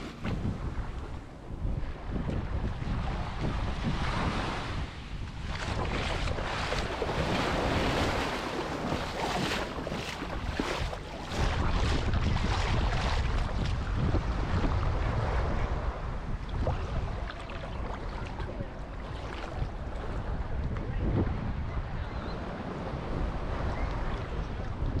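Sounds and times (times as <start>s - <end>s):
surf washing onto beach: 0.0s - 20.4s
low wind rumble: 0.0s - 25.0s
wind buffeting microphone: 0.0s - 25.0s.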